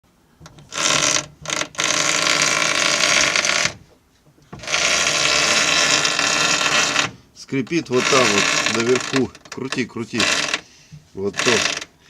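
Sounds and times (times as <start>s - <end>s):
steering creaking: 0.4s - 12.0s.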